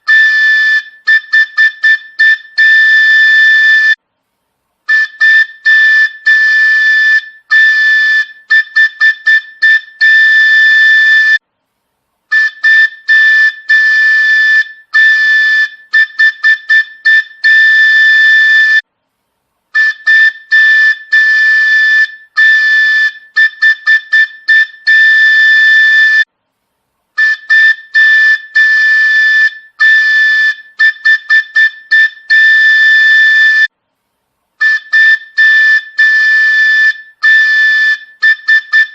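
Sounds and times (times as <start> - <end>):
shrill train horn whistle: 0.0 - 4.0, 4.9 - 11.4, 12.3 - 18.8, 19.8 - 26.3, 27.2 - 33.7, 34.6 - 38.9.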